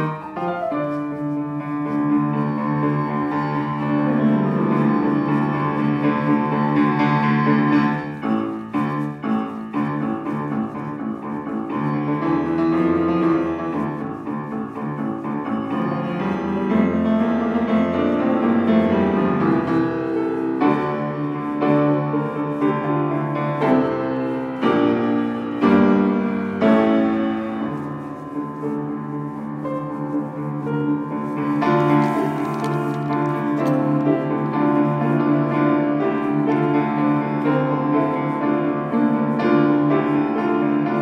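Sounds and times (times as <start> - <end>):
solo grand piano: 0.0 - 41.0.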